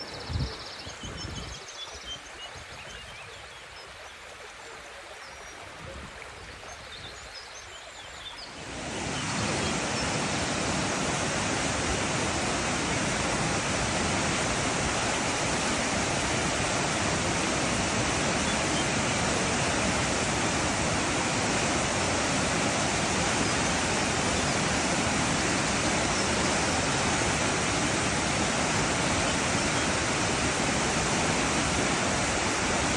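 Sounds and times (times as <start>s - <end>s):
rushing water: 0.0s - 32.9s.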